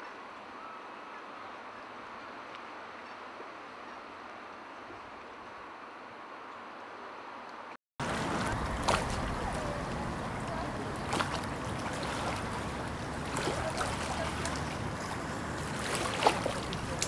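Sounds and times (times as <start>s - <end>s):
wind and water rushing: 0.0s - 17.0s.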